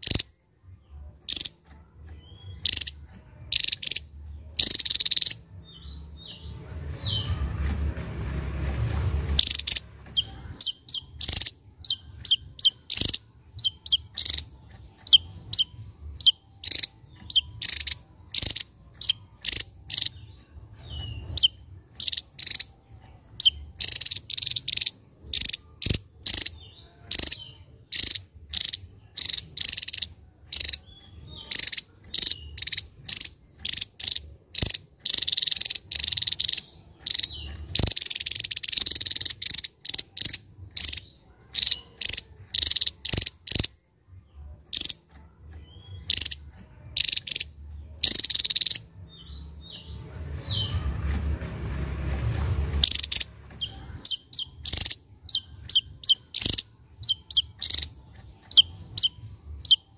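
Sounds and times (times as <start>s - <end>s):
bird singing high chipping notes: 0.0s - 59.9s.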